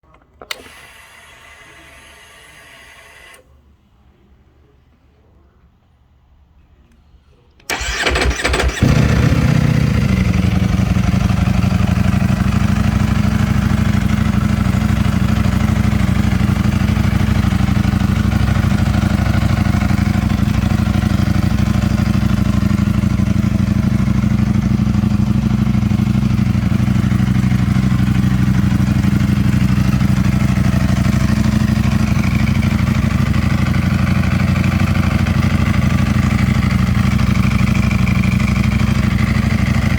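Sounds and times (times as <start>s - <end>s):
motorcycle engine starting and idling: 7.6s - 39.9s.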